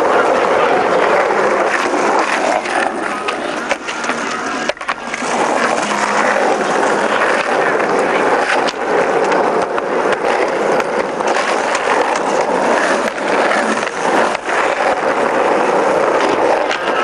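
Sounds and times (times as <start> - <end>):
skateboard clacks: 0.0 - 17.0
skateboard wheels rolling on asphalt: 0.0 - 17.0.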